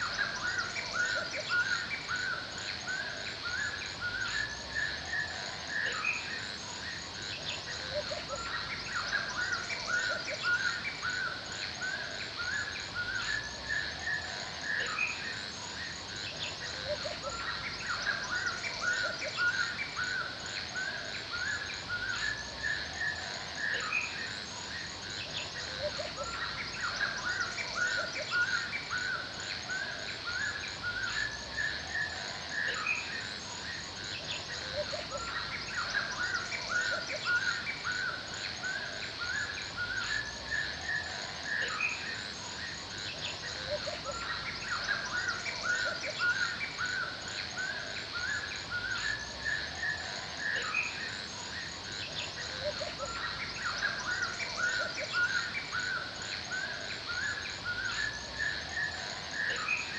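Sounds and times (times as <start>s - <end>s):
forest birds chirping: 0.0s - 59.9s
insects hissing: 0.0s - 59.9s.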